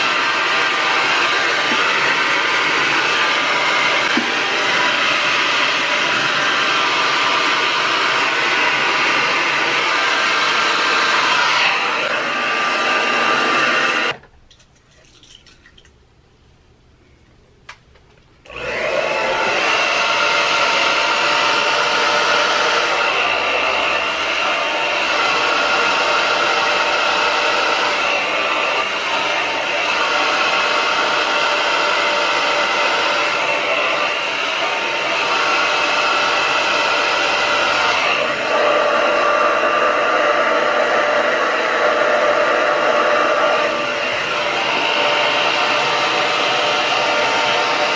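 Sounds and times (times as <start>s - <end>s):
hair dryer blowing: 0.0s - 14.2s, 18.4s - 47.9s.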